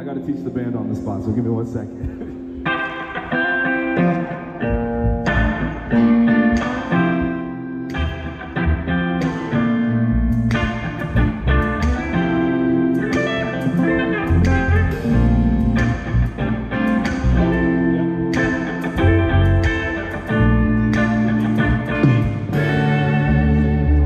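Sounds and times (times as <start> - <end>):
guitar chords: 0.0 - 24.0
bass notes: 0.8 - 24.0
slow band groove: 1.9 - 24.0.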